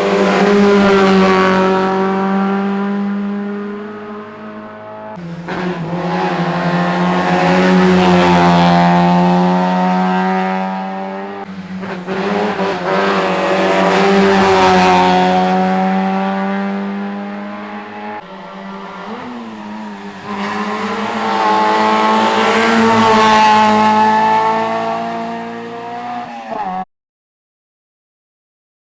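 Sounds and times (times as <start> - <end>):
rally car engines at high revs: 0.0 - 26.8.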